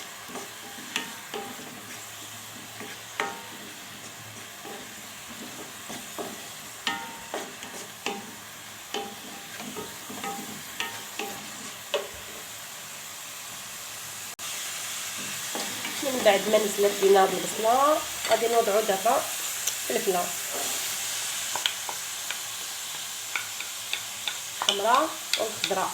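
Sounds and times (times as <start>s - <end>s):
onion sizzling in oil: 0.0s - 25.9s.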